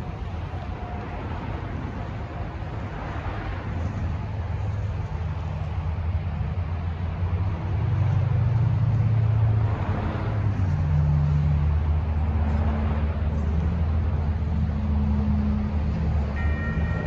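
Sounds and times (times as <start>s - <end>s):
highway traffic rumble: 0.0s - 17.0s
truck engines droning: 0.0s - 17.0s.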